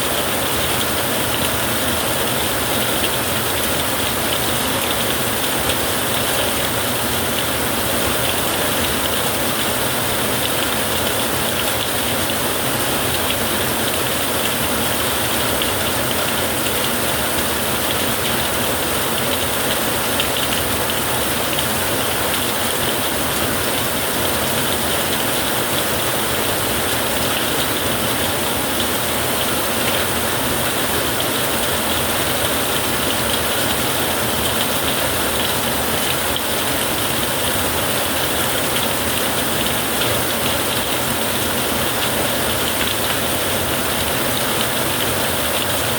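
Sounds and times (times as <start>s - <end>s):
rain on a tin roof: 0.0s - 45.9s.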